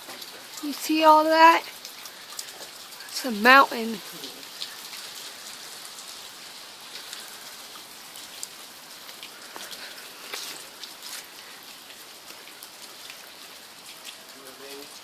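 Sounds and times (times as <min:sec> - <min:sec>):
water dripping off trees: 0:00.0 - 0:15.0.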